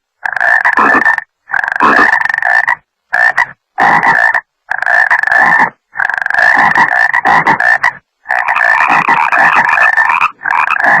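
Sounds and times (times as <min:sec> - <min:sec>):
frogs croaking: 0:00.2 - 0:11.0.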